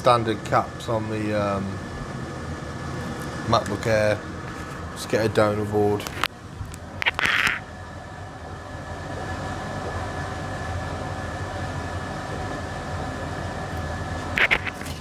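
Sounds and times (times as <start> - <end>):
fan blowing hum: 0.0 - 15.0
thin steady whine: 0.0 - 15.0.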